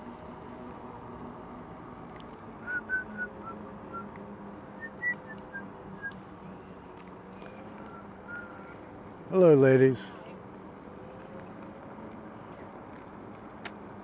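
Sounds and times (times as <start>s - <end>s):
faint high steady tone: 0.0s - 13.0s.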